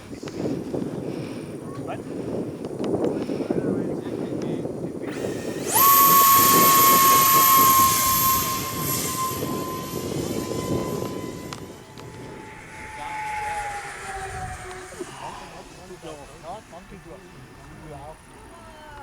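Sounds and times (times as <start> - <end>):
electric ducted fans whining: 0.0 - 19.0.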